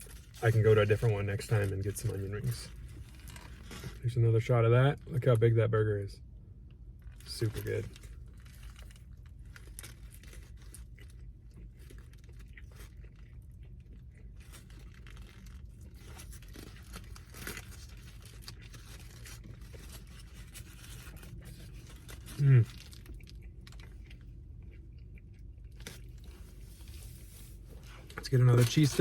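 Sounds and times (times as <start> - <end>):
chewing and biting burger: 0.0 - 4.0, 6.9 - 29.0.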